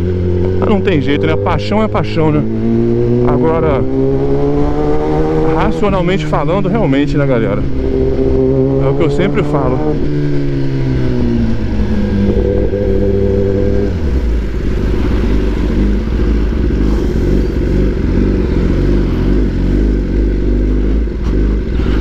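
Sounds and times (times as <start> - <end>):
loud motorcycle engine rumbling: 0.0 - 22.0.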